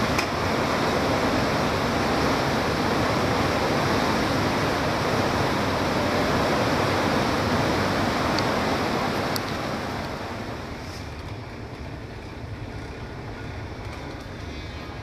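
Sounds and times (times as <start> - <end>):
choppy river water: 0.0 - 15.0.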